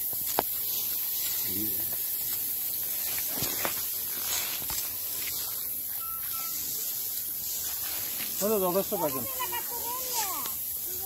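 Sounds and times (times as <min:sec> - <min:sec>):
rice plants rustling: 0:00.0 - 0:11.0
steady hiss: 0:00.0 - 0:11.0.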